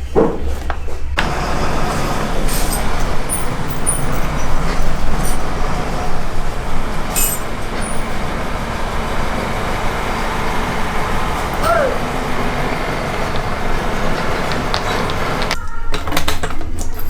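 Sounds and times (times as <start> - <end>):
road traffic noise: 1.2 - 15.6.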